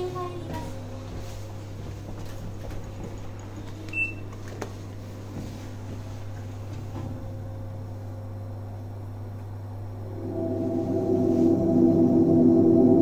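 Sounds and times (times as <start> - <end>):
elevator hum: 0.0 - 13.0.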